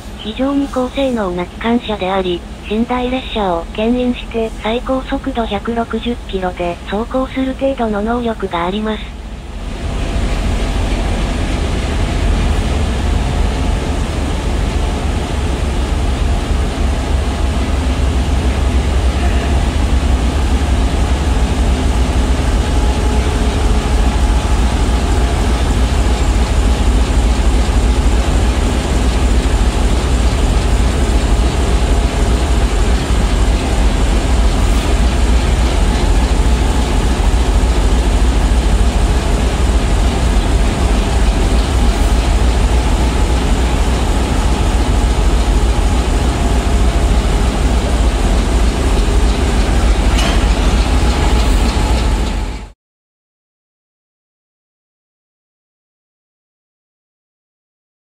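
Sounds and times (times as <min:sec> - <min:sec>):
diesel locomotive engine rumbling: 0:00.0 - 0:52.8.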